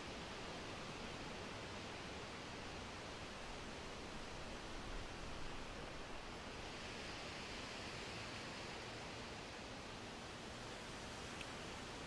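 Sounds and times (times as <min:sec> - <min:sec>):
steady wind: 0:00.0 - 0:12.0.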